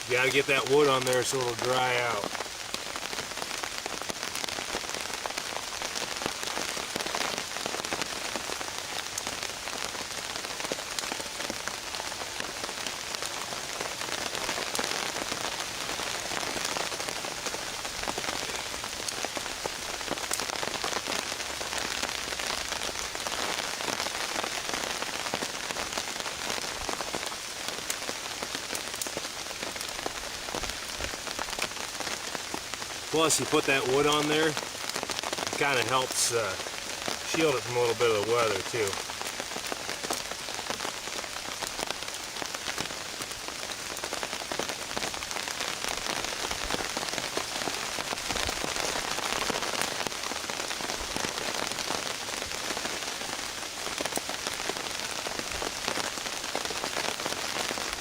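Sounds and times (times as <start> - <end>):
rain falling on a tarp: 0.0 - 58.0.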